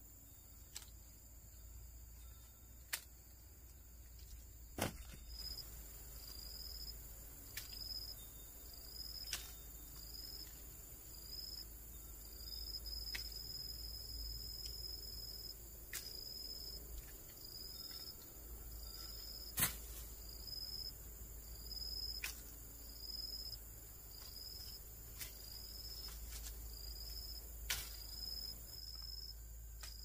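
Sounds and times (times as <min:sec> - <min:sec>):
high insect whine: 0:00.0 - 0:30.0
insect chirping: 0:00.0 - 0:30.0.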